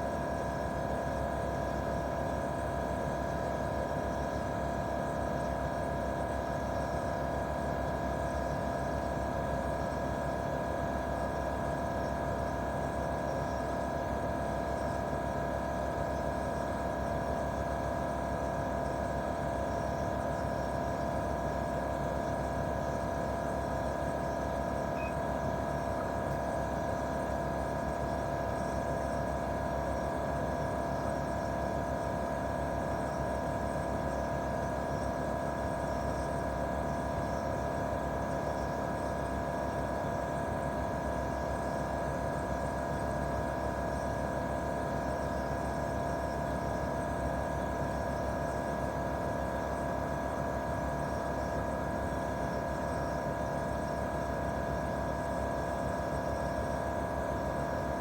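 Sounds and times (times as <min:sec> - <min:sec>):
air conditioner unit humming: 0:08.2 - 0:58.0.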